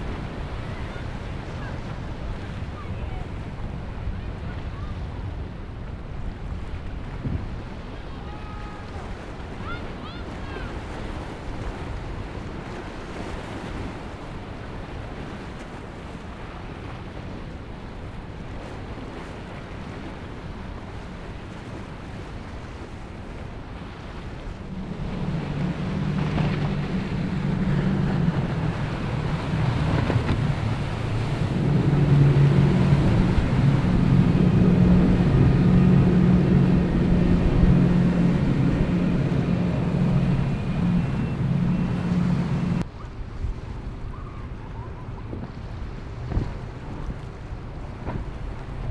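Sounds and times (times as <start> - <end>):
motorboat engines droning: 0.0 - 48.9
waves: 0.0 - 48.9
wind: 0.0 - 48.9.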